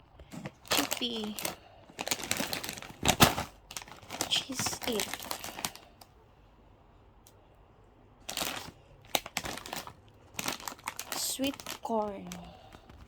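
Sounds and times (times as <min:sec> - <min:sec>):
plastic packets crinkling: 0:00.2 - 0:06.1, 0:08.2 - 0:13.0.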